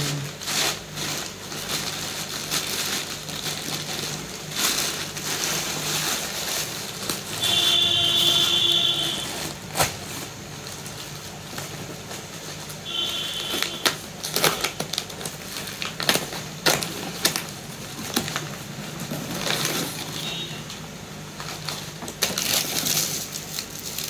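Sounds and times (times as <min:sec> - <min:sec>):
plastic bag crinkling: 0:00.0 - 0:20.7, 0:21.3 - 0:24.0.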